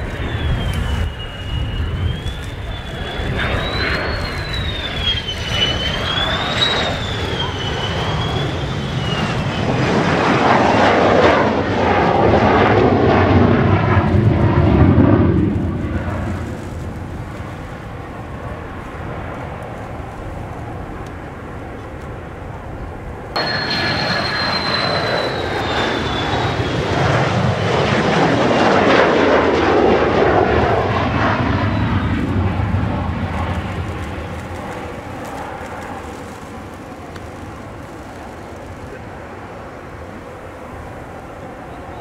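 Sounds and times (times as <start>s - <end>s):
jet engine high whine: 0.0s - 42.0s
jet passing with rushing rumble: 0.0s - 42.0s.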